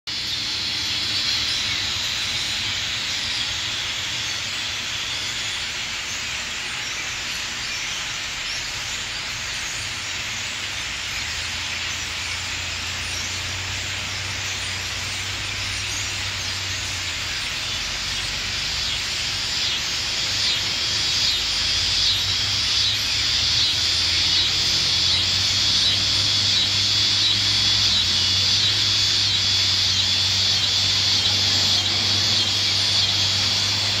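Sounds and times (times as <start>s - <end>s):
cicadas buzzing: 0.1s - 34.0s
low steady hum: 0.1s - 34.0s.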